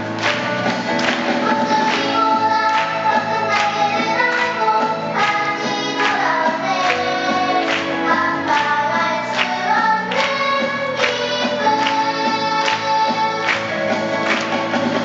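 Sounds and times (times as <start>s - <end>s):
instrumental accompaniment with beat: 0.0s - 15.0s
group of people singing: 1.0s - 14.2s.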